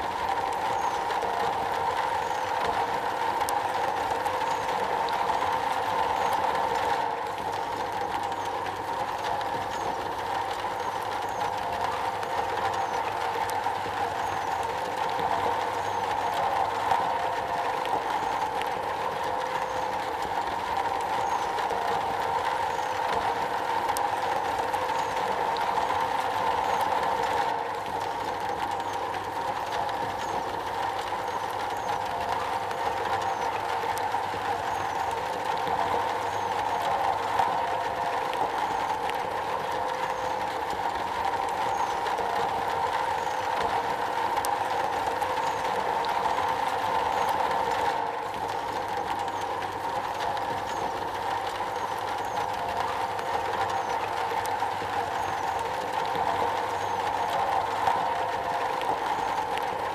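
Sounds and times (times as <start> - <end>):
rain on metal: 0.0 - 59.9.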